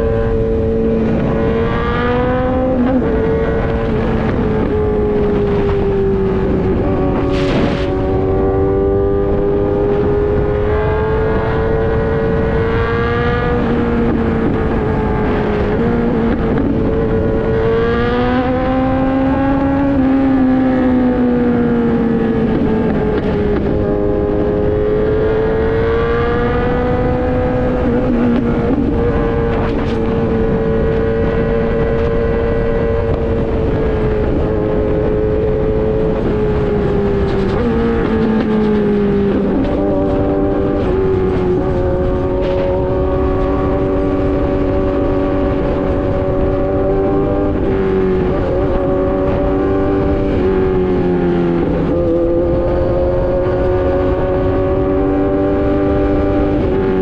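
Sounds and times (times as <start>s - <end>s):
motorcycle engine cruising: 0.0s - 57.0s
wind noise rushing: 0.0s - 57.0s.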